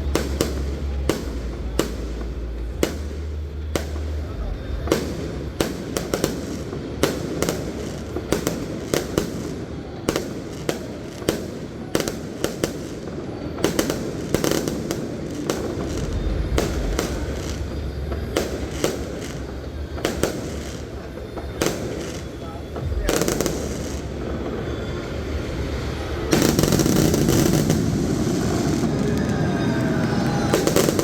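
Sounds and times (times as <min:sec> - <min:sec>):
continuous rumble: 0:00.0 - 0:31.0
fireworks bangs and pops: 0:00.0 - 0:31.0.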